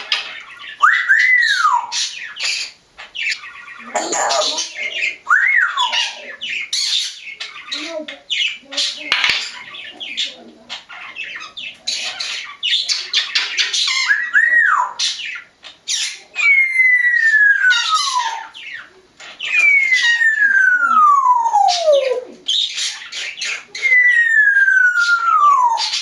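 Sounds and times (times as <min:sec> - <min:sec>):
parrots squawking and chirping: 0:00.0 - 0:26.0.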